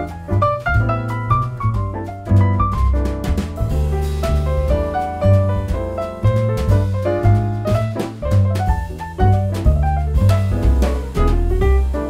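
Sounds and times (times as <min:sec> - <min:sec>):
instrumental jazz with piano: 0:00.0 - 0:12.0.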